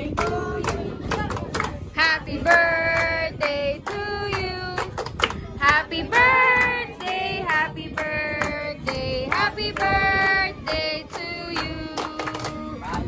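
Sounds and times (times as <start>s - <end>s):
group singing a birthday song: 0.0s - 13.0s
people clapping along: 0.0s - 13.0s.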